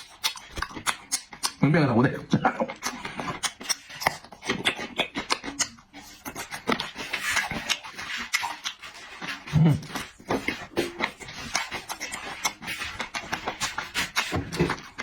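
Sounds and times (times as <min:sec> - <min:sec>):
wet chewing and lip smacks: 0:00.0 - 0:15.0.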